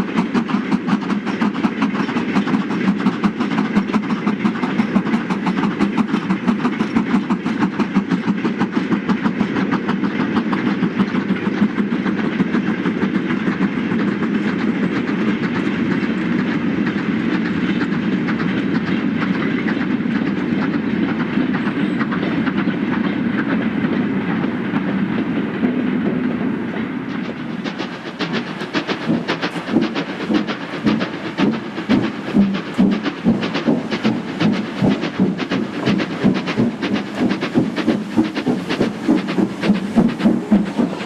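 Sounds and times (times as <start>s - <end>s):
freight train wheels clattering: 0.0s - 41.0s
steam locomotive exhaust beats: 0.0s - 41.0s.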